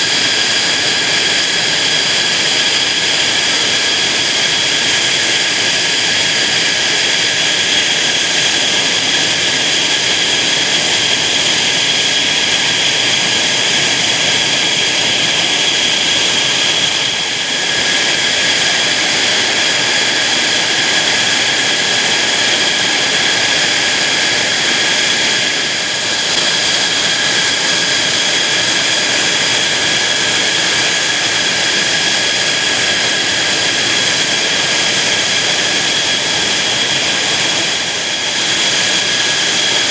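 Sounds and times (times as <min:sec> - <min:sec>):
jet engine whining: 0:00.0 - 0:39.9.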